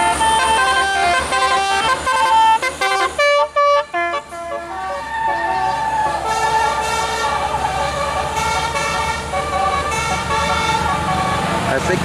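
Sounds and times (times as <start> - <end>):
musical air horn tune: 0.0 - 11.5
bus engine running: 0.0 - 12.0.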